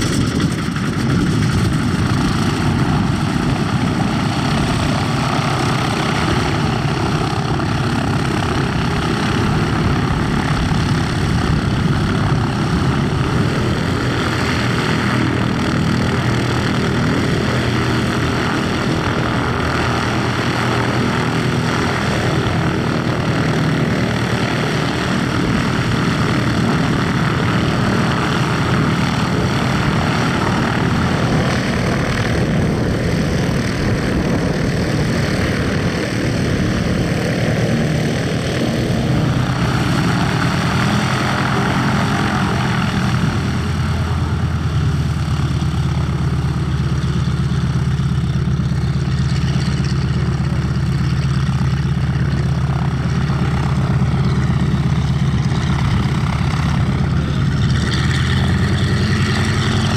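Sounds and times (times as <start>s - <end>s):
aircraft engine idling: 0.0s - 59.9s.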